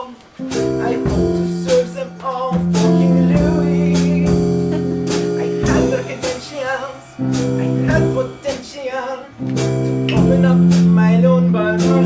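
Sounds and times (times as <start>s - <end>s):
electric keyboard chords: 0.0s - 12.0s
person singing: 0.0s - 12.0s.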